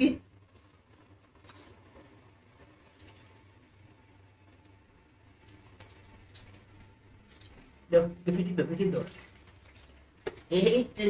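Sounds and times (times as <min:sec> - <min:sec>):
water drips: 0:00.5 - 0:10.8.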